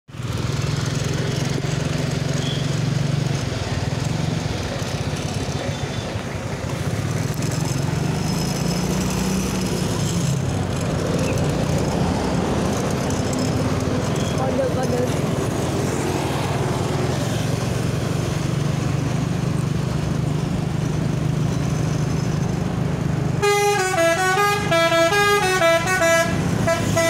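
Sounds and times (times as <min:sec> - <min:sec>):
traffic engines rumbling: 0:00.1 - 0:27.0.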